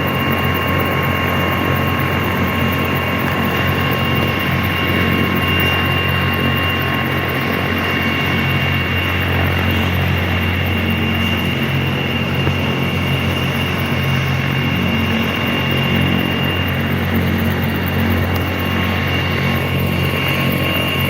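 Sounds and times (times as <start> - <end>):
helicopter rotor drone: 0.0 - 21.0
turbine whine: 0.0 - 21.0.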